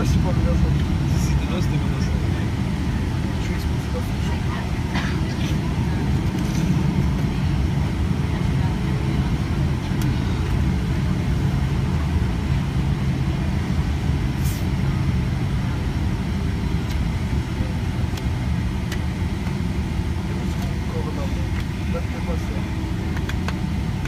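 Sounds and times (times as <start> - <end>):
airplane cabin engine rumble: 0.0 - 24.0
faint steady whine: 0.0 - 24.0.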